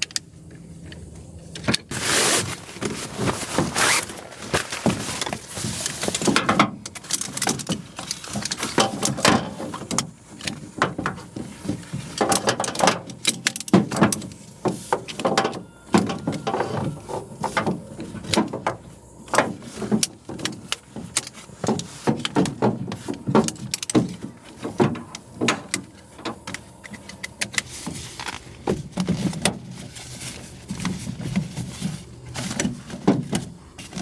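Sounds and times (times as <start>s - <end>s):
objects clicking and clattering: 2.8s - 34.0s.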